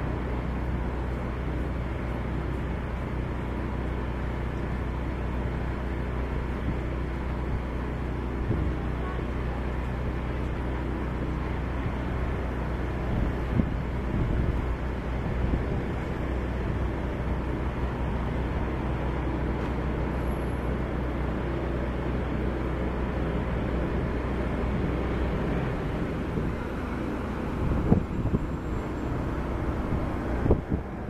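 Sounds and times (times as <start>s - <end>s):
ship engine rumbling: 0.0s - 31.0s.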